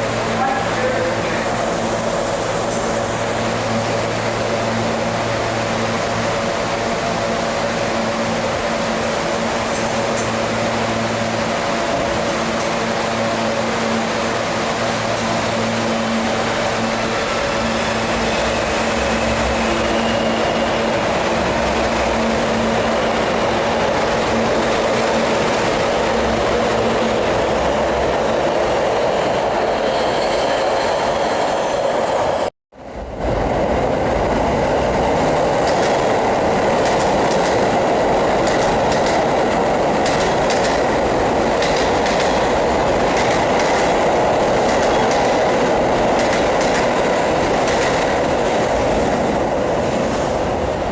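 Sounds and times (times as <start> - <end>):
subway train rumbling on rails: 0.0 - 50.9.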